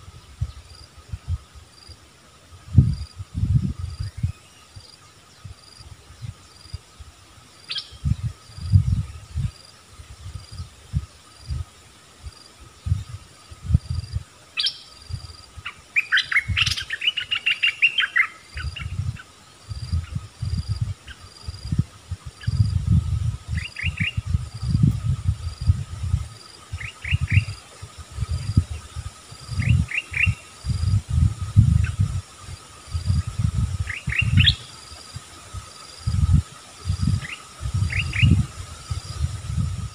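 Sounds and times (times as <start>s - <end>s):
faint insect drone: 0.0s - 39.9s
bulbuls chirping song: 2.8s - 39.9s.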